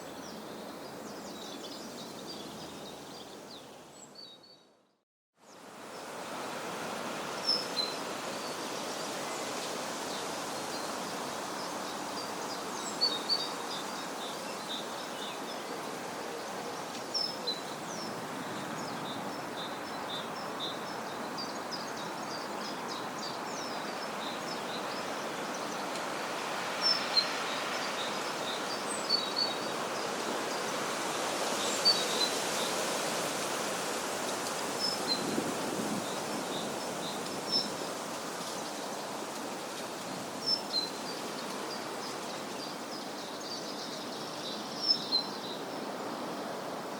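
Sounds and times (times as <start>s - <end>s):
steady background hiss: 5.5s - 46.9s.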